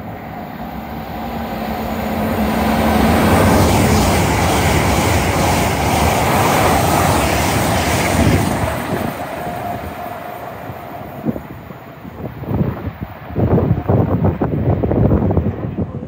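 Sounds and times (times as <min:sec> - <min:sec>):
train passing: 0:00.0 - 0:16.0.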